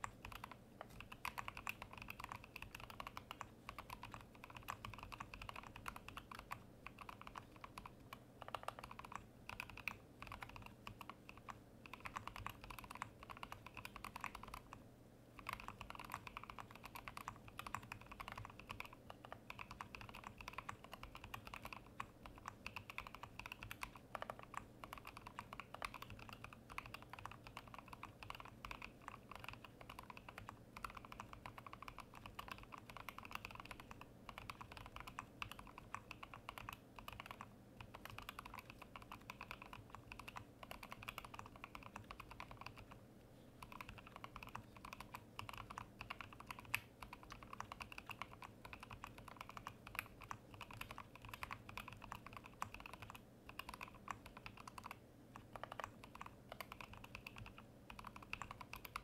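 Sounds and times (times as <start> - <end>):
fast typing on mechanical keyboard: 0.0 - 43.0, 43.6 - 59.0.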